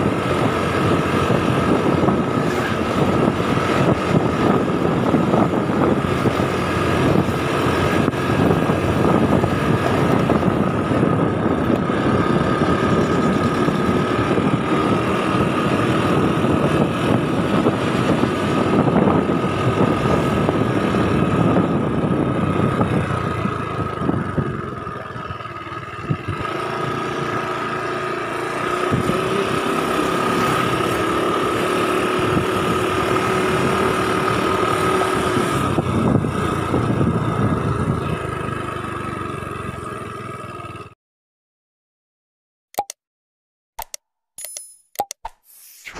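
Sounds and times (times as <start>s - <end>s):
motorcycle engine running: 0.0s - 41.0s
wind and road rush: 0.0s - 41.0s.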